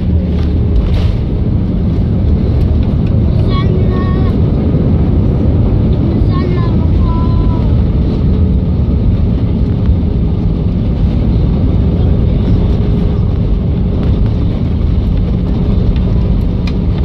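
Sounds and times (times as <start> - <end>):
jet engines and wheels rumbling: 0.0 - 17.0.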